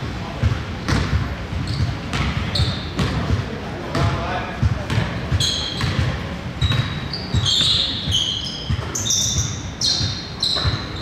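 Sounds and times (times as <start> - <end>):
basketball bouncing: 0.4 - 11.0
sneakers squeaking on court: 0.4 - 11.0.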